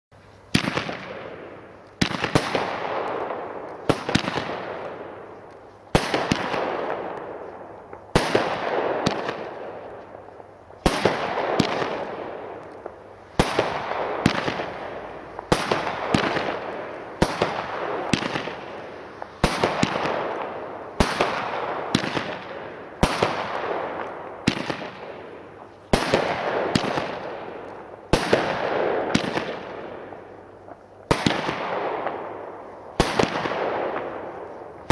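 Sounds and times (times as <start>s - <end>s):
firework mortar cracks: 0.3s - 34.9s.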